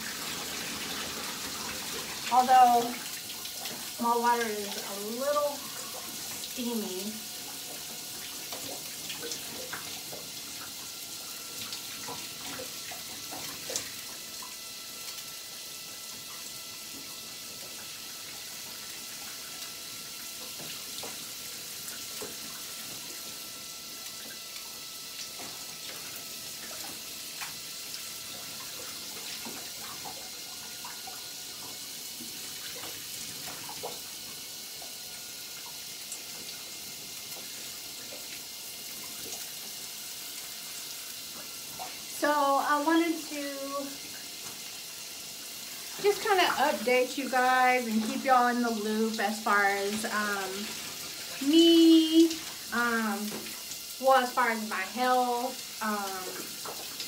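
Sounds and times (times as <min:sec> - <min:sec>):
shower water spraying and splashing: 0:00.0 - 0:57.0
small splashes and drips: 0:00.0 - 0:57.0.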